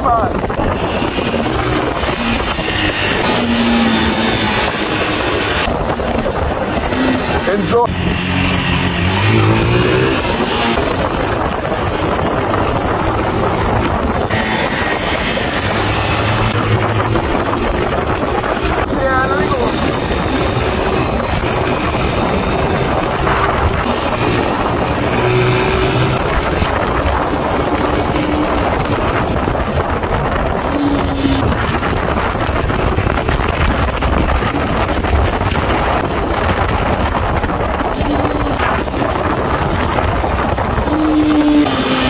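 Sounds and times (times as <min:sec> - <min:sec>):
motorbike engine running: 0:00.0 - 0:42.0
wind rushing over microphone: 0:00.0 - 0:42.0.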